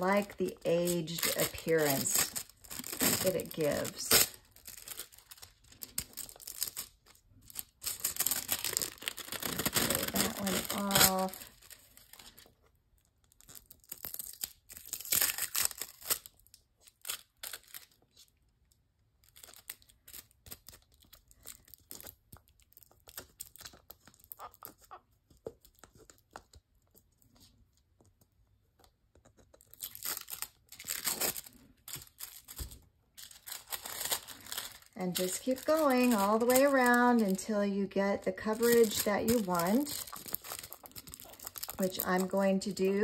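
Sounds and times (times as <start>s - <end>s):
foil sheets crinkling and crackling: 0.0s - 18.4s, 19.2s - 27.6s, 29.4s - 43.0s.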